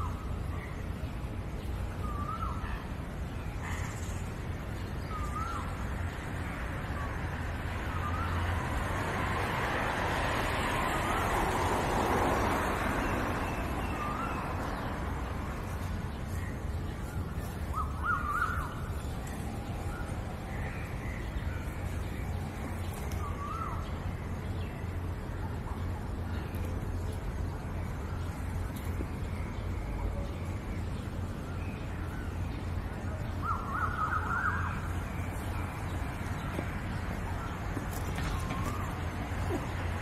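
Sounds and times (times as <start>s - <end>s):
birds calling: 0.0s - 6.4s, 12.8s - 40.0s.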